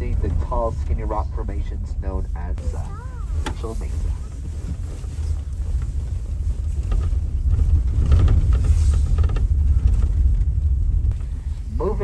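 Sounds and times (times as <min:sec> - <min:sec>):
creaks and rattles: 0:00.0 - 0:12.0
vehicle rumble on dirt road: 0:00.0 - 0:12.0.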